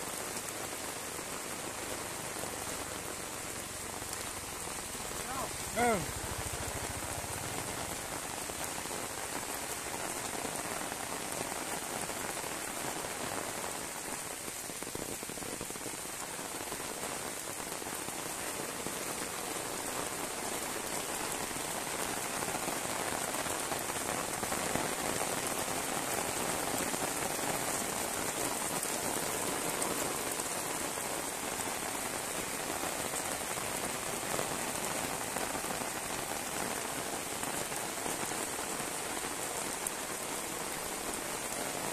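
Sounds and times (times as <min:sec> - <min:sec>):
heavy rain on wet concrete: 0:00.0 - 0:41.9.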